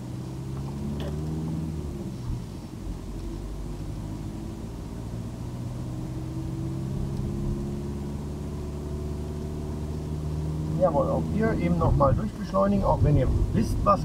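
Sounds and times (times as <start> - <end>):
car engine running inside cabin: 0.0 - 14.0.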